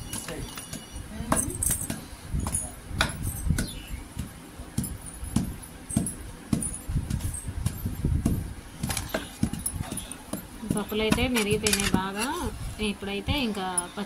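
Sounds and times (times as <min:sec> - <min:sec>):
pestle pounding in stone mortar: 0:00.0 - 0:12.4.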